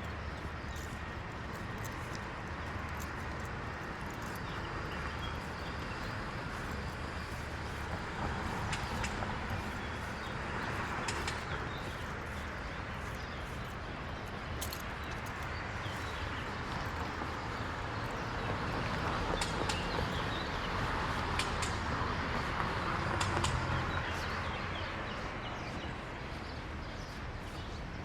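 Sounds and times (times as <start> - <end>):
faint footsteps on pavement: 0.0 - 28.0.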